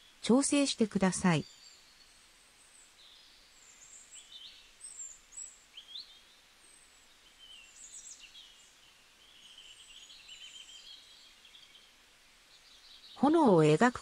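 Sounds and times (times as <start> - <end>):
faint birdsong: 0.0 - 14.0
light steady hiss: 0.0 - 14.0.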